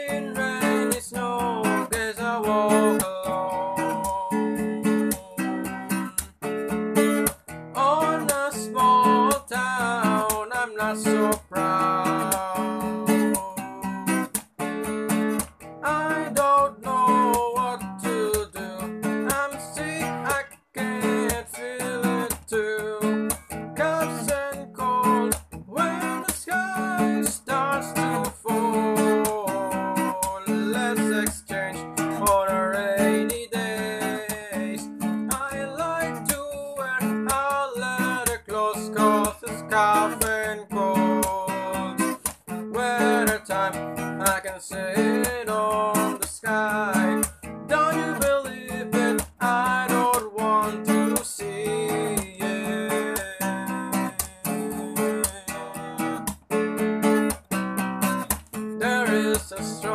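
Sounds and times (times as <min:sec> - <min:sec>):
man singing: 0:00.0 - 0:57.4, 0:58.6 - 0:59.9
acoustic guitar strumming: 0:00.0 - 0:59.9.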